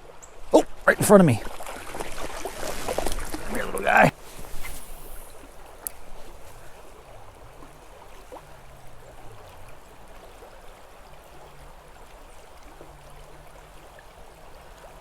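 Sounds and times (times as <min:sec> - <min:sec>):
creek flowing over rocks: 0:00.0 - 0:15.0.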